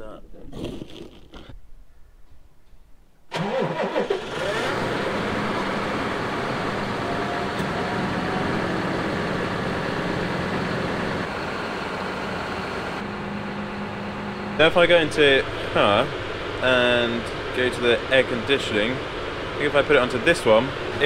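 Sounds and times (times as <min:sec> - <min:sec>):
diesel tractor engine starting: 0:03.3 - 0:21.0.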